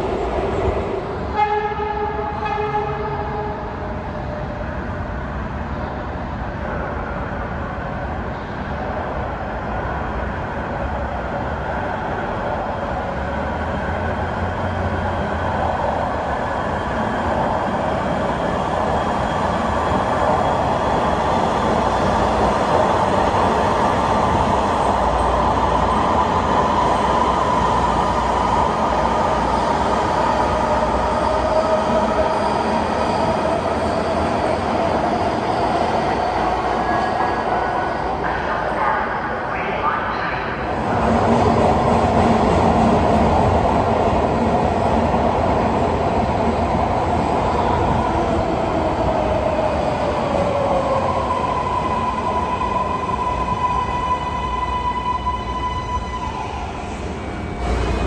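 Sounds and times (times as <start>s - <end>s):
train pulling into station: 0.0s - 58.0s.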